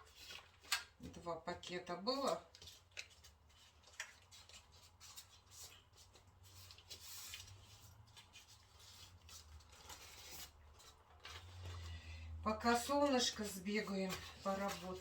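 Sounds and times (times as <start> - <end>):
hands handling dough and packaging: 0.0 - 12.0, 12.6 - 15.0.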